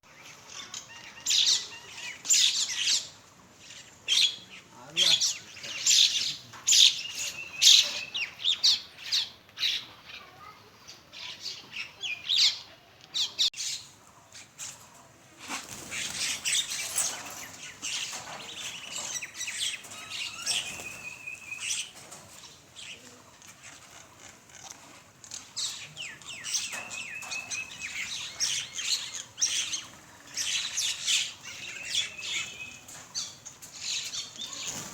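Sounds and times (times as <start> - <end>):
birds squawking and chattering: 0.1 - 34.9.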